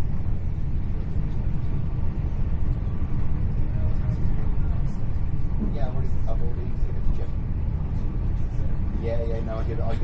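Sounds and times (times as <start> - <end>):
train carriage rumbling at speed: 0.0 - 10.0.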